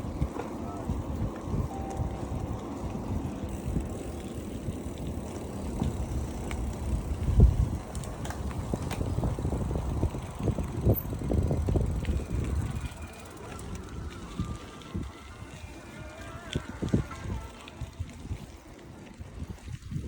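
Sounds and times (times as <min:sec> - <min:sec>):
bicycle rolling along street: 0:00.0 - 0:20.0
wind buffeting microphone: 0:00.0 - 0:20.0.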